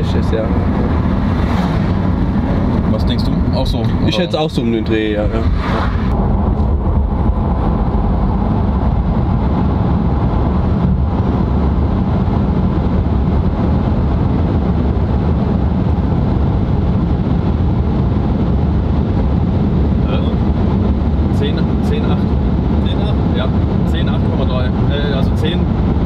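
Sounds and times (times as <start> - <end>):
low tyre rumble: 0.0 - 26.0
road and wind noise in car: 0.0 - 26.0.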